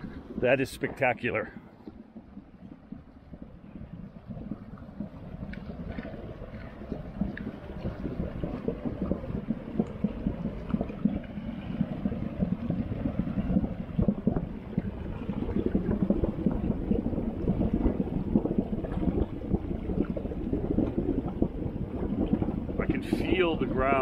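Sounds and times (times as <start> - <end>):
hot stream boiling and gurgling: 0.0 - 24.0.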